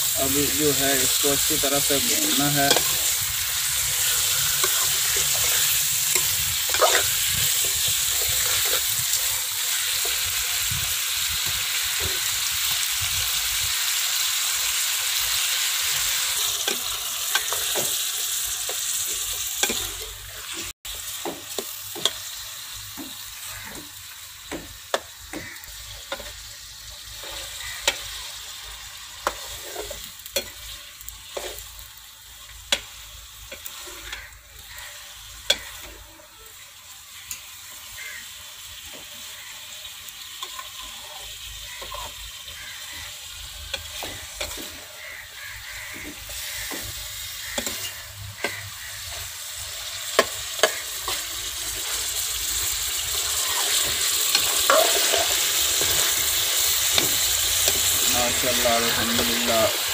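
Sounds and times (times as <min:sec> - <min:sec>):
food sizzling in a metal pot: 0:00.0 - 0:59.9.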